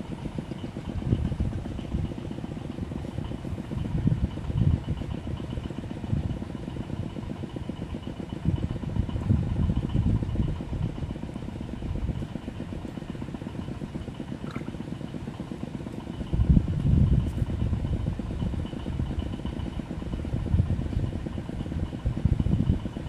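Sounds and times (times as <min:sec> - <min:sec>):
wind buffeting microphone: 0:00.1 - 0:14.8, 0:16.1 - 0:23.0.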